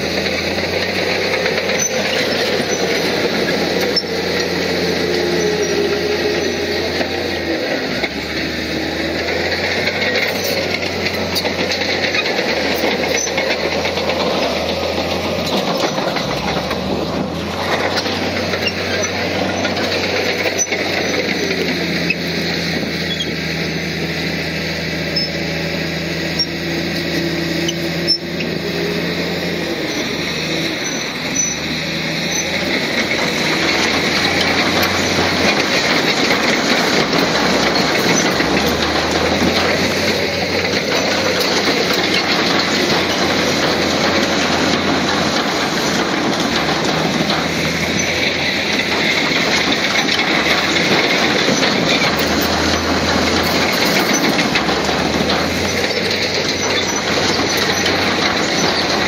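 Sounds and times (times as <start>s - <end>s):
heavy diesel machinery engine drone: 0.0s - 59.0s.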